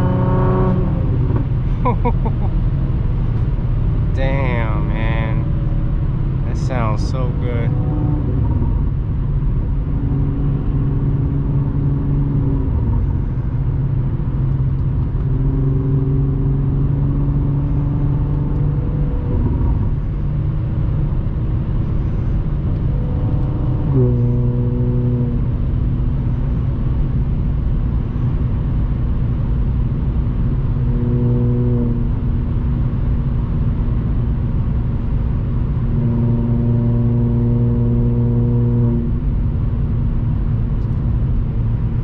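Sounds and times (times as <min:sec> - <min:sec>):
car engine drone from inside cabin: 0:00.0 - 0:42.0.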